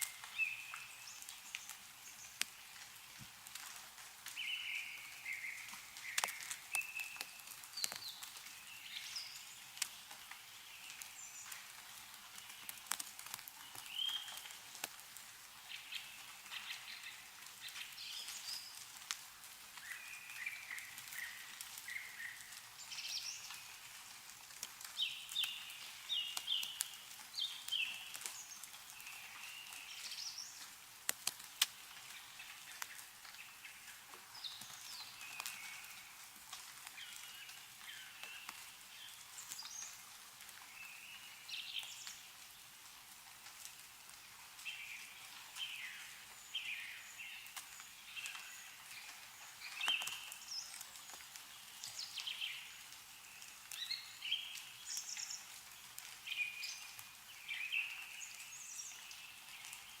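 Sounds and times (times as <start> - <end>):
meltwater dripping: 0.0 - 60.0
songbirds chirping: 0.0 - 60.0.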